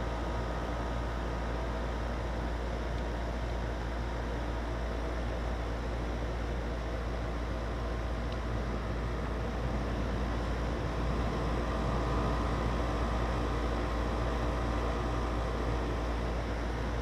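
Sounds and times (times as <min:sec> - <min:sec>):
condenser fan rushing: 0:00.0 - 0:17.0
low compressor hum: 0:00.0 - 0:17.0.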